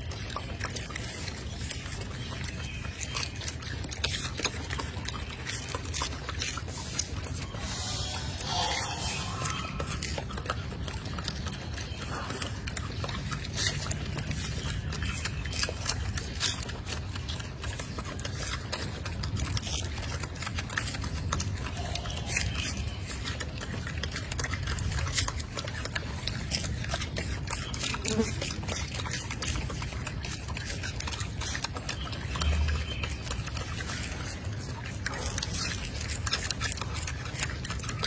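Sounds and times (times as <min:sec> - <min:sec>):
monkeys crunching and smacking food: 0:00.0 - 0:38.0.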